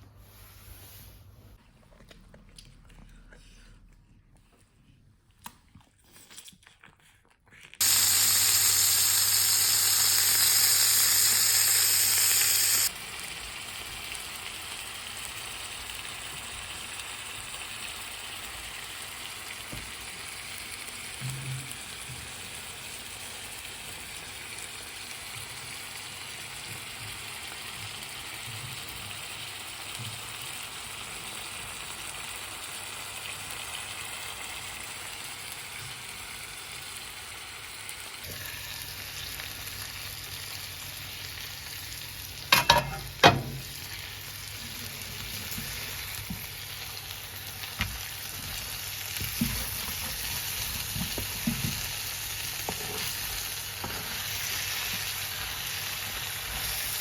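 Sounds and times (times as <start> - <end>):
food sizzling in a frying pan: 7.8 - 57.0.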